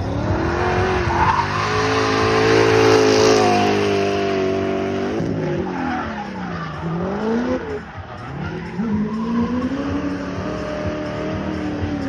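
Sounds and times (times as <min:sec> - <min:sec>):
car engine at high revs: 0:00.0 - 0:12.0
tyres skidding and screeching: 0:00.0 - 0:12.0.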